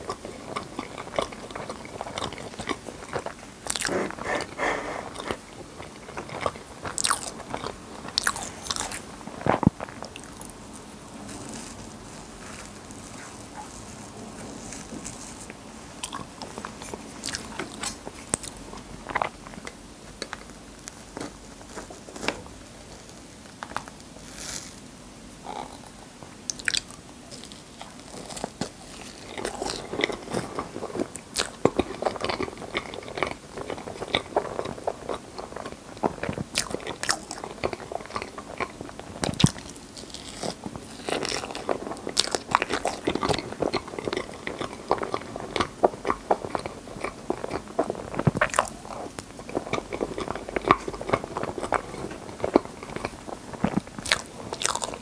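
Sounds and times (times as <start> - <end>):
chewing: 0.0 - 24.8, 26.5 - 55.0.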